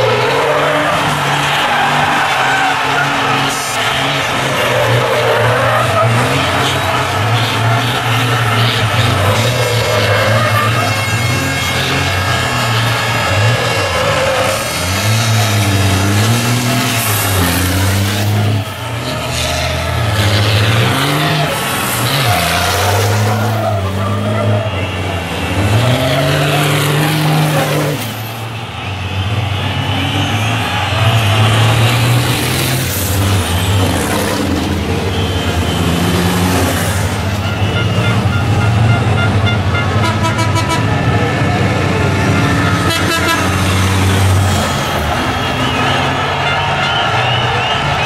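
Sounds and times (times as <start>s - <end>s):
truck diesel engines revving: 0.0s - 48.0s.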